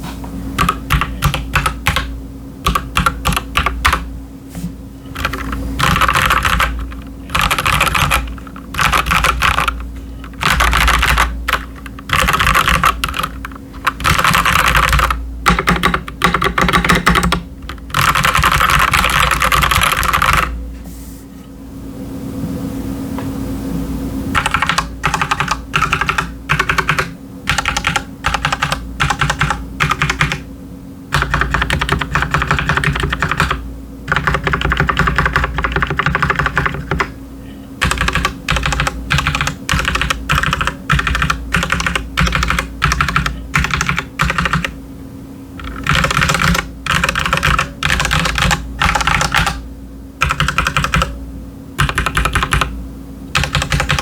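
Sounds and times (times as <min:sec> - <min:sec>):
mechanical keyboard typing: 0:00.6 - 0:04.1, 0:05.1 - 0:20.6, 0:24.3 - 0:30.5, 0:31.1 - 0:37.2, 0:37.8 - 0:44.8, 0:45.6 - 0:49.6, 0:50.2 - 0:51.2, 0:51.8 - 0:52.7, 0:53.3 - 0:54.0.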